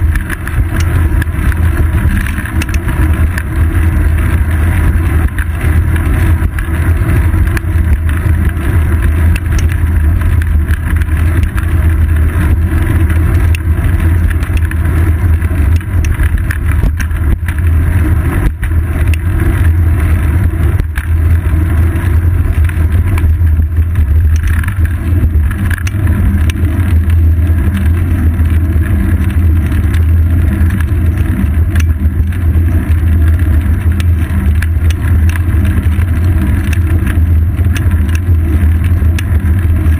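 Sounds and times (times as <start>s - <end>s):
road vibration rumble: 0.0s - 39.9s
wind noise: 0.0s - 39.9s.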